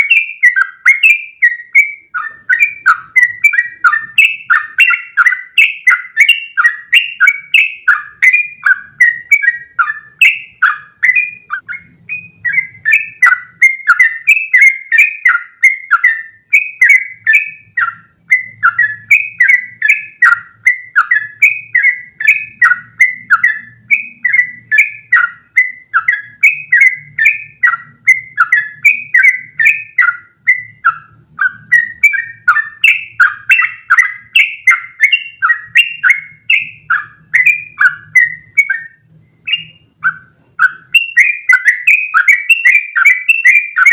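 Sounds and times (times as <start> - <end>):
bulbul singing quick chirps: 0.0 - 43.9.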